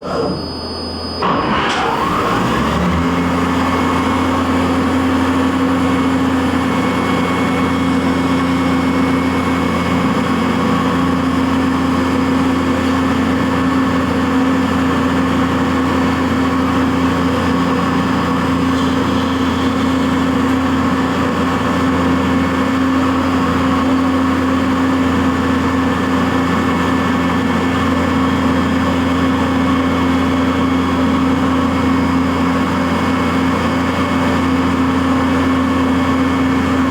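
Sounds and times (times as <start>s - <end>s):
milling machine spindle running: 0.0s - 36.9s.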